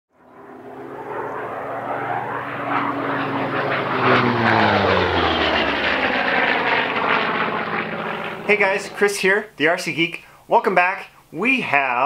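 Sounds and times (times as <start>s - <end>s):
propeller airplane flying past: 0.1s - 10.1s.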